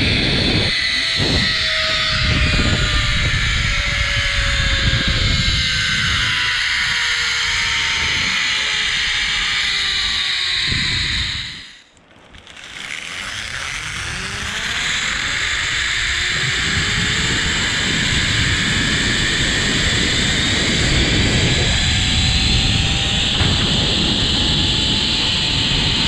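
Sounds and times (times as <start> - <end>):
wind rushing on microphone: 0.0 - 11.8, 13.1 - 26.0
zipline pulleys whining on cable: 0.0 - 26.0.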